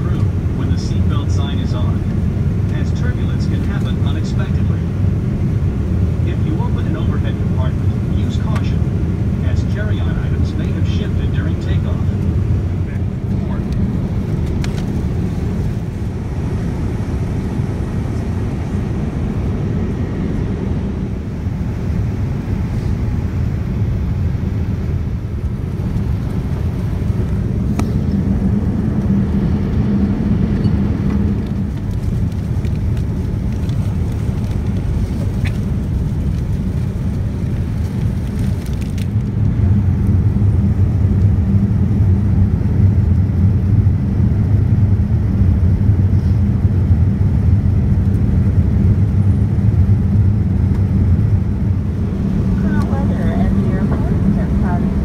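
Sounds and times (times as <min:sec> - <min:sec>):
airliner cabin rumble: 0:00.0 - 0:55.0
low hum: 0:00.0 - 0:55.0.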